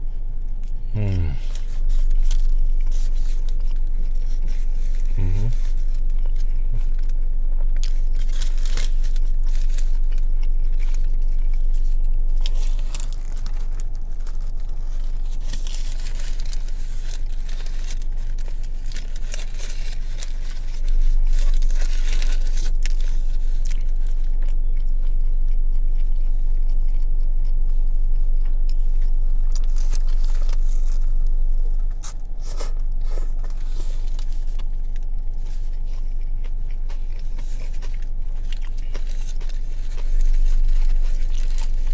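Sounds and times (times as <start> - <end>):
chewing bread: 0.0 - 41.9
steady low rumble: 0.0 - 41.9
crunching: 0.1 - 41.9
paper wrapper crinkling: 1.4 - 24.5, 29.0 - 41.9.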